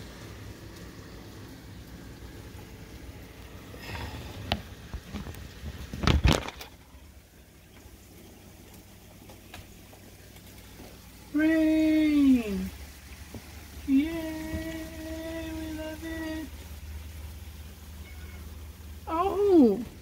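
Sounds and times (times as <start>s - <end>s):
faint rain hiss: 0.0s - 20.0s.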